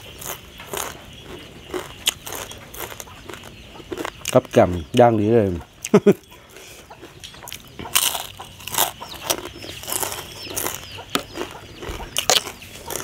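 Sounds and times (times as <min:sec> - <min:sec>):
crunching bites and chewing: 0:00.0 - 0:04.6, 0:06.8 - 0:13.0.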